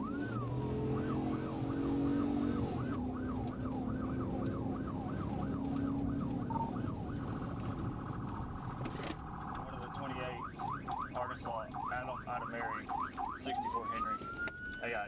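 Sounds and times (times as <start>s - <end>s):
police siren yelping: 0.0s - 15.0s.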